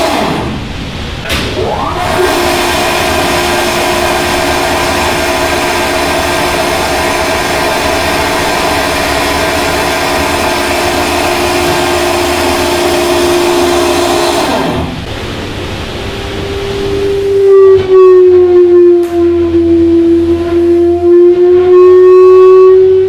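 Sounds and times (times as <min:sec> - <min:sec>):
turbine generator whine: 0:00.0 - 0:23.0.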